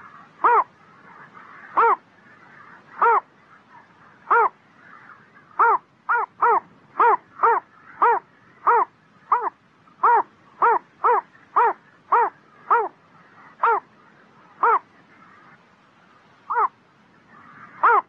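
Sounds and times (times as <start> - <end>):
heron calling: 0.0 - 15.6, 16.5 - 16.8, 17.4 - 18.0.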